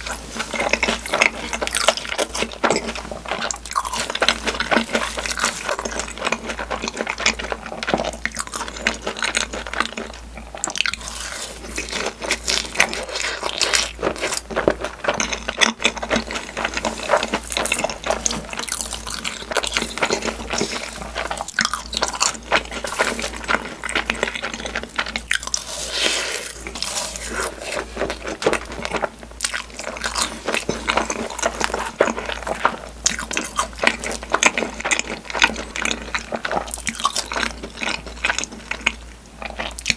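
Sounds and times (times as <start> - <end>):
close chewing and biting: 0.0 - 39.9.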